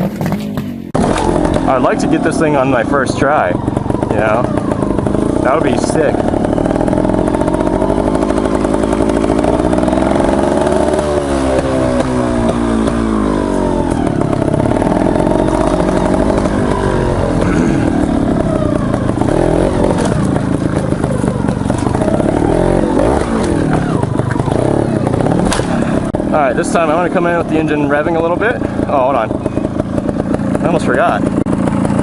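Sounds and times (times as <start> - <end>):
clatter: 0.0 - 2.1, 3.6 - 32.0
motorcycle engine revving: 0.0 - 32.0.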